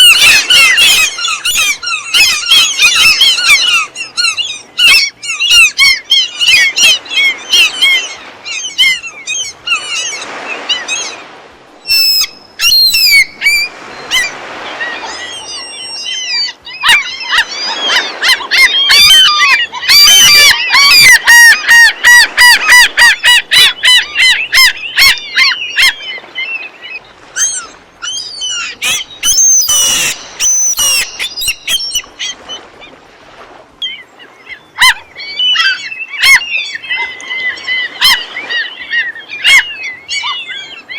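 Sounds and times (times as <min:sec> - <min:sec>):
gulls squawking: 0:00.0 - 0:40.9.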